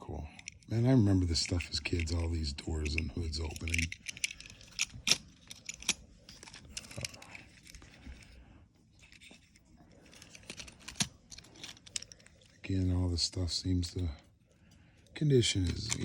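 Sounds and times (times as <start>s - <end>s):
toy cars clicking and clinking: 0.1s - 14.2s, 15.4s - 16.0s.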